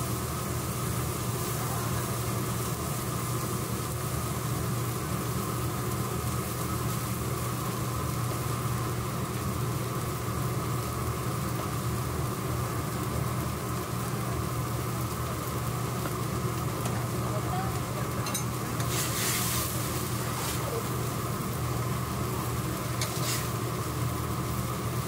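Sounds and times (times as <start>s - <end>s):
cheese sizzling on griddle: 0.0s - 25.0s
low machine hum: 0.0s - 25.0s.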